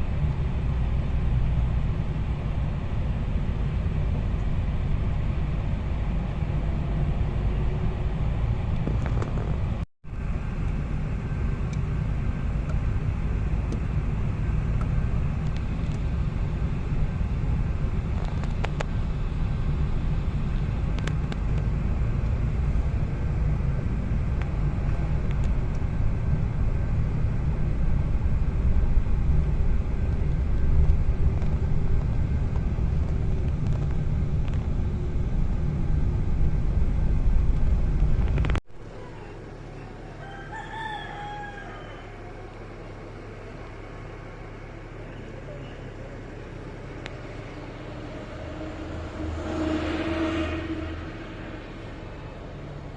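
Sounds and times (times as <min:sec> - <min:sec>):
car engine and tyres rumbling: 0:00.0 - 0:52.9.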